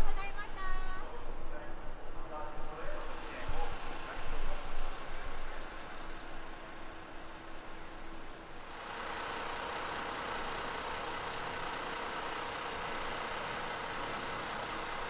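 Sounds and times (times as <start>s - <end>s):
bus engine humming and hissing: 1.9s - 15.0s.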